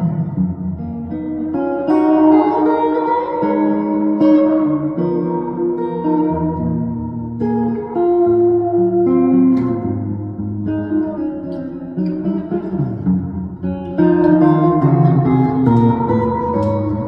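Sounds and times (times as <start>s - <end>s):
electric guitar jazz chords: 0.0s - 17.0s.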